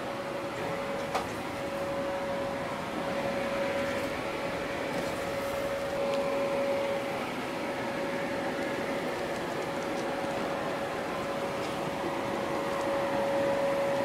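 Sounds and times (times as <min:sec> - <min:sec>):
electric blower fans humming: 0:00.0 - 0:14.0.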